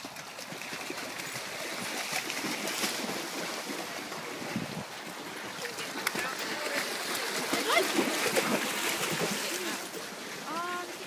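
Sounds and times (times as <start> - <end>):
dogs splashing in water: 0.0 - 11.0
stream running over stones: 0.0 - 11.0.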